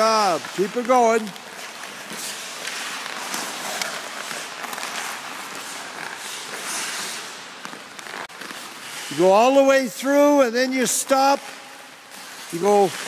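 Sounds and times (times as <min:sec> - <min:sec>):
sticks clicking on pucks: 0:00.0 - 0:09.6, 0:10.9 - 0:13.0
skate blades scraping ice: 0:00.0 - 0:13.0.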